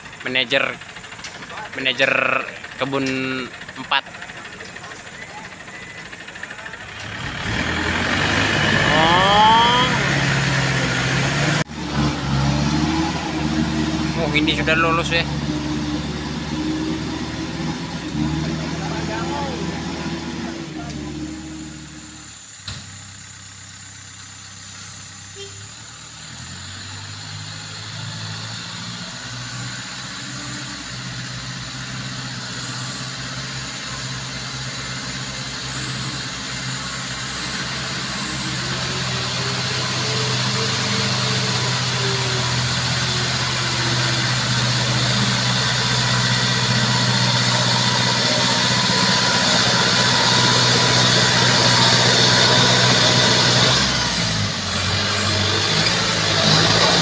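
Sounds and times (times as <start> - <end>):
tractor engine under load: 0.0 - 23.2, 29.0 - 57.0.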